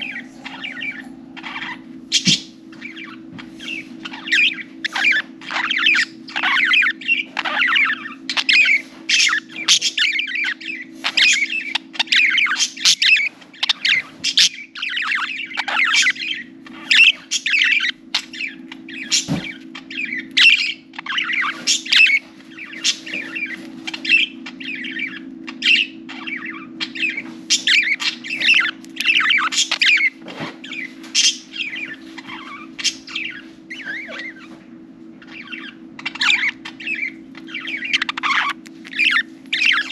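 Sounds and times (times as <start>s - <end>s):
budgerigars chattering: 0.0s - 34.6s, 35.2s - 39.9s
low hum: 0.0s - 39.9s.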